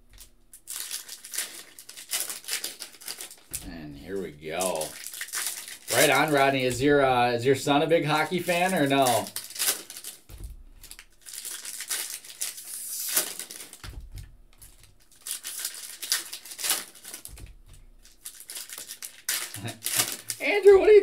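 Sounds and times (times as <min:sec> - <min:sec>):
foil wrappers tearing and crinkling: 0:00.1 - 0:21.0.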